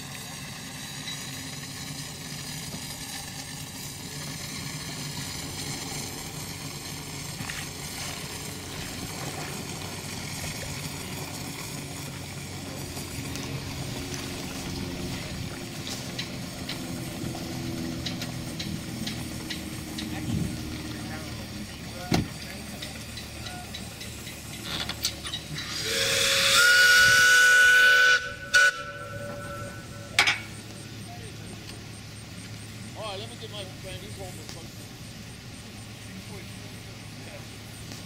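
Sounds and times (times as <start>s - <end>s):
steam launch engine humming: 0.0s - 38.0s
water noise: 0.0s - 38.0s.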